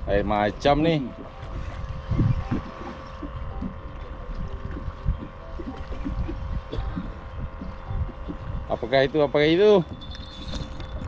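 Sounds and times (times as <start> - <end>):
steady hum: 0.0 - 11.0
water slapping boat hull: 0.0 - 11.0
wind buffeting microphone: 0.0 - 11.0.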